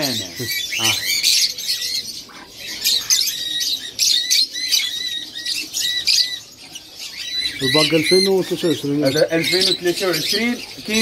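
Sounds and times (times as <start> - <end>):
parrots squawking and chirping: 0.0 - 11.0.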